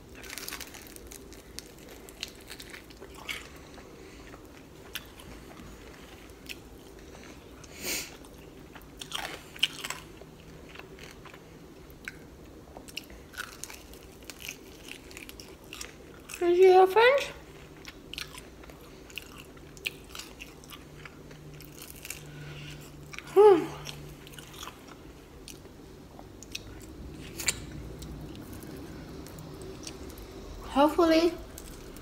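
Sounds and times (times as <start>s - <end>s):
crunchy chewing: 0.0s - 16.4s, 17.5s - 30.6s, 31.5s - 32.0s.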